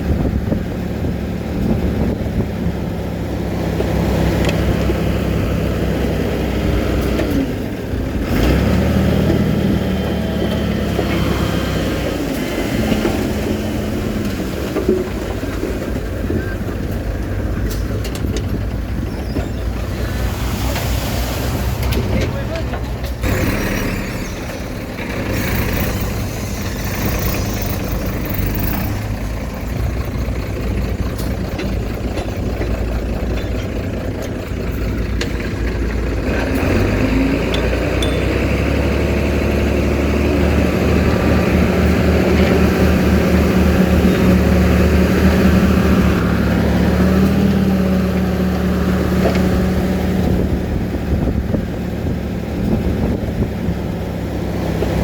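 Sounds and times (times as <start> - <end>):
earthmoving machinery diesel engine: 0.0 - 55.0.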